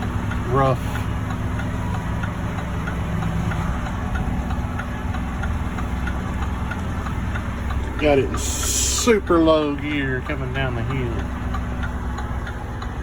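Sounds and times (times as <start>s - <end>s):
faint regular ticking: 0.0s - 13.0s
truck diesel engine at low revs: 0.0s - 13.0s.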